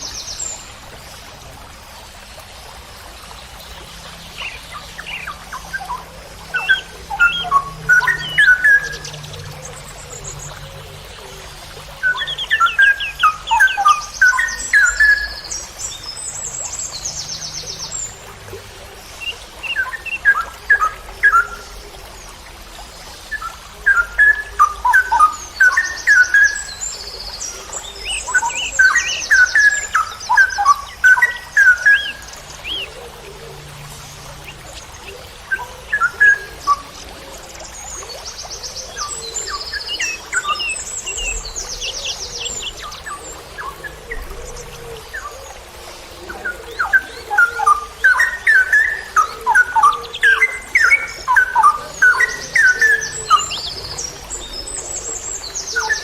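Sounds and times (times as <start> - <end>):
bird singing: 4.2 - 18.2, 23.3 - 56.0.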